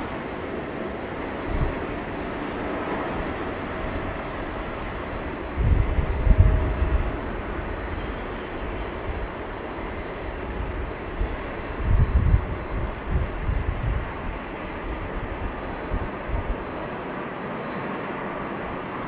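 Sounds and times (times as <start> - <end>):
jet engines: 0.0 - 19.0
low rumbling surges: 0.0 - 19.0.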